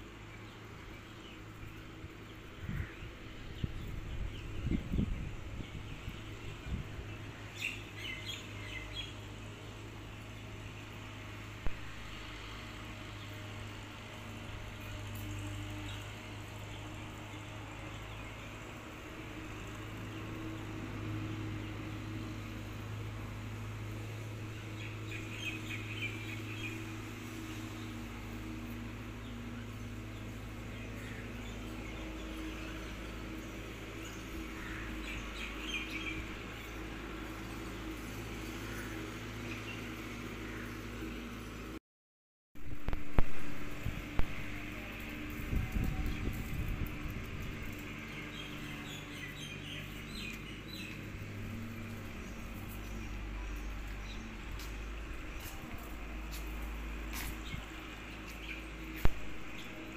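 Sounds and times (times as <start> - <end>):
birds chirping: 0.0 - 41.8, 42.6 - 59.9.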